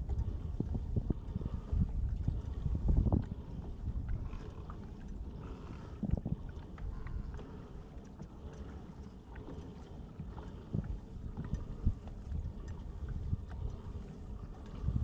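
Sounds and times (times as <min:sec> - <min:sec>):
wind rumbling on microphone: 0:00.0 - 0:08.0, 0:10.1 - 0:15.0.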